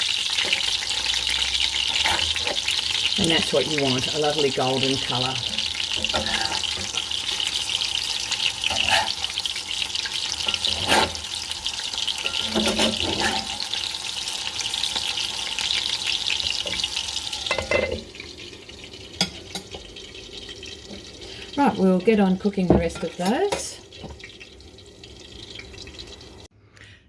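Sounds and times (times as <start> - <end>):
patties sizzling in a pan: 0.0 - 26.5.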